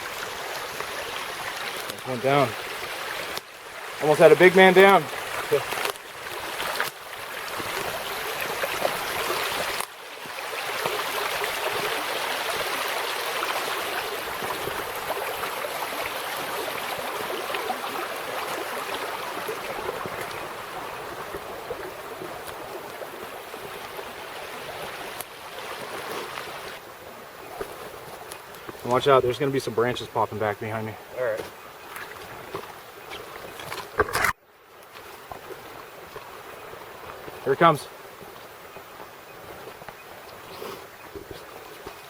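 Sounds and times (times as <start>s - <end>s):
creek water rushing: 0.0s - 42.0s.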